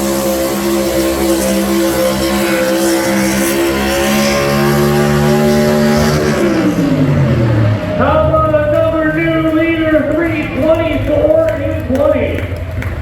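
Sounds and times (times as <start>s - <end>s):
truck engine revving under load: 0.0s - 13.0s.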